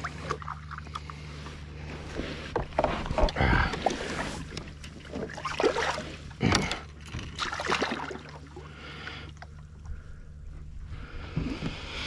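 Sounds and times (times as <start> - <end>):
water splashing against boat: 0.0 - 10.2
low steady hum: 0.0 - 12.0.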